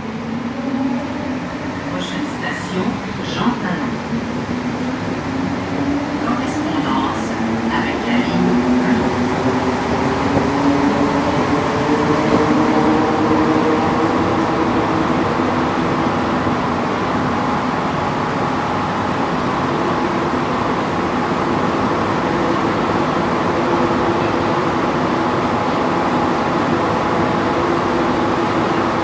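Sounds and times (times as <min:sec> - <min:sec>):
train rumble and hiss: 0:00.0 - 0:29.0.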